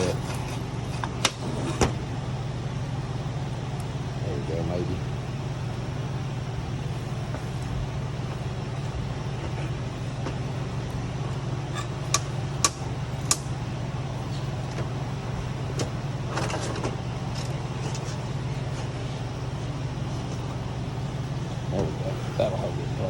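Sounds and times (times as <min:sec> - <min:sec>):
steady low background hum: 0:00.0 - 0:23.0.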